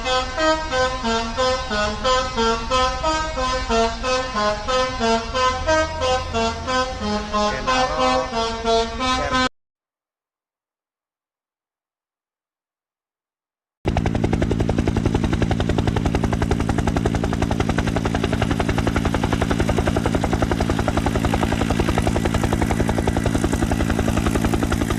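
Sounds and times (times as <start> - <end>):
engine drone: 0.0 - 9.5, 13.9 - 24.9
helicopter rotor chopping: 0.1 - 9.5, 13.9 - 24.9.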